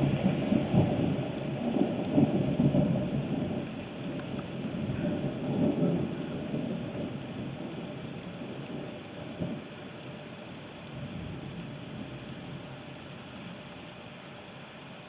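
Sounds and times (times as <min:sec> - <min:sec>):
thunder rumbling: 0:00.0 - 0:13.7
steady rain: 0:00.0 - 0:15.0.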